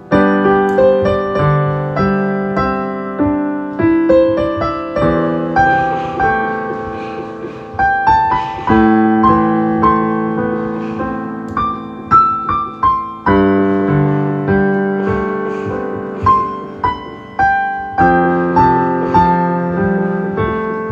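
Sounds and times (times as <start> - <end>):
slow solo piano music: 0.0 - 20.9.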